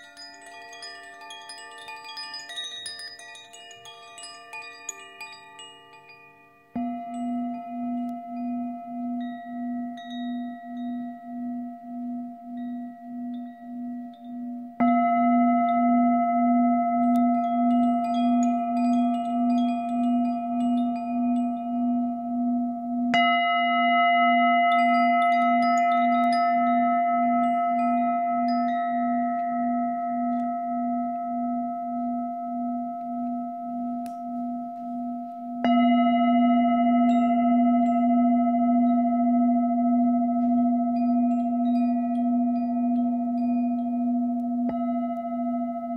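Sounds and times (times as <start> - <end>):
singing bowl ringing: 0.0 - 45.9
small chimes tinkling: 0.0 - 45.9.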